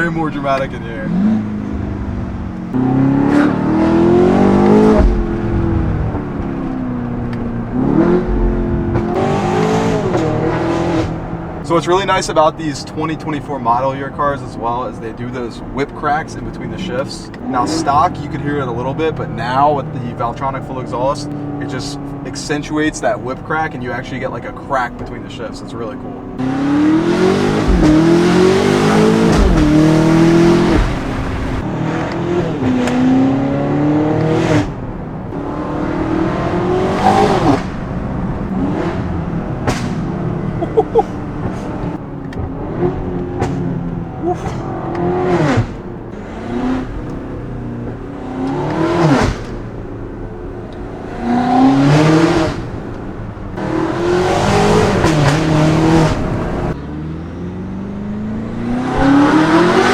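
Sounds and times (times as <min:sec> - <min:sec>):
exhaust crack on gear shifts: 0:00.0 - 0:57.0
car engine accelerating hard: 0:00.0 - 0:59.9.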